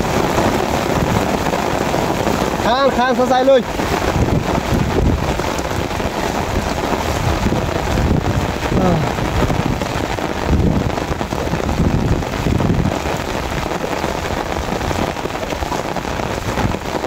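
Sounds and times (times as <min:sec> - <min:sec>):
heavy rain on a field: 0:00.0 - 0:17.0
rain on an umbrella: 0:00.0 - 0:17.0.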